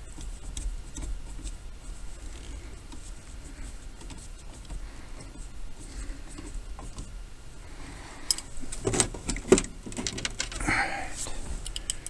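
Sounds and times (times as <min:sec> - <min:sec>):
hands rubbing and clicking parts: 0:00.0 - 0:07.2, 0:08.2 - 0:12.0
low steady hum: 0:00.0 - 0:12.0.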